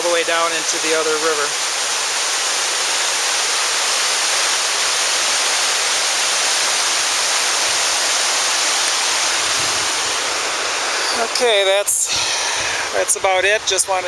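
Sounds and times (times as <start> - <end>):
waterfall rushing over rock: 0.0 - 14.0.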